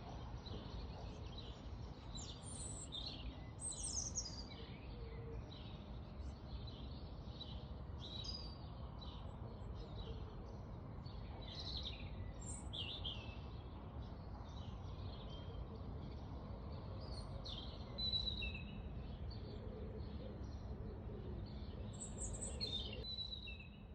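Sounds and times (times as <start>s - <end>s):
small birds chirping and singing: 0.0s - 23.9s.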